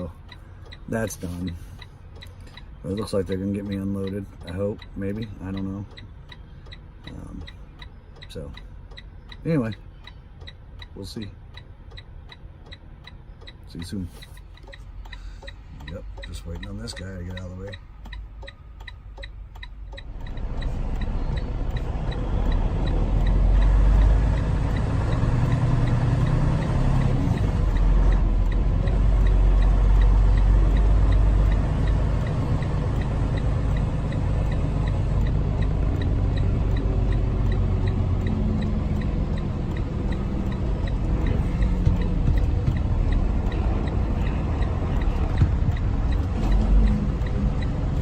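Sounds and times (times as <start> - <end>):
diesel truck engine rumbling: 0.0 - 48.0
turn signal ticking: 0.0 - 48.0.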